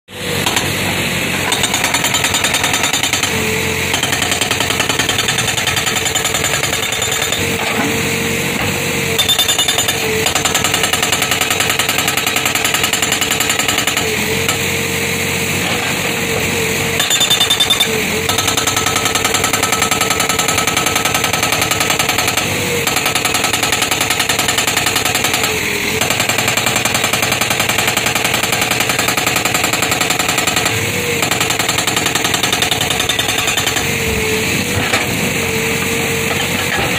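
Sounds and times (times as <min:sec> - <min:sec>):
backhoe engine running: 0:00.1 - 0:36.9
hydraulic breaker hammering rock: 0:00.2 - 0:36.9.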